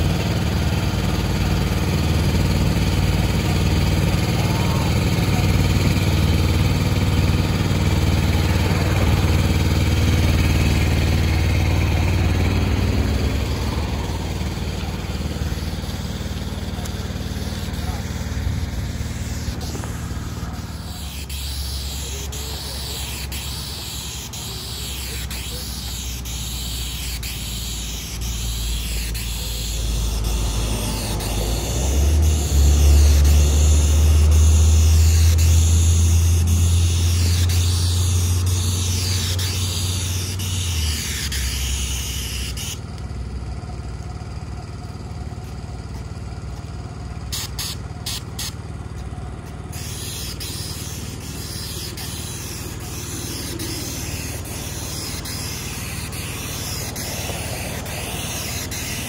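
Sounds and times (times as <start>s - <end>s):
sealer hissing from spray wand: 0.0s - 42.8s, 47.3s - 48.6s, 49.4s - 59.0s
low engine rumble: 0.0s - 59.0s.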